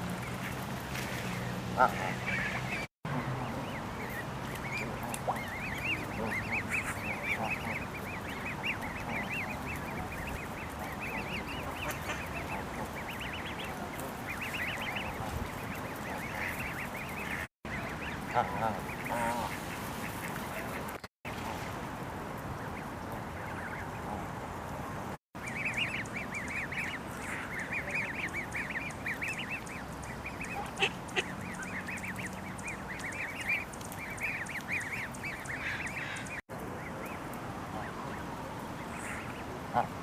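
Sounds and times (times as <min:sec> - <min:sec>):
goslings peeping: 0:00.0 - 0:21.4, 0:22.5 - 0:24.8, 0:25.4 - 0:40.0.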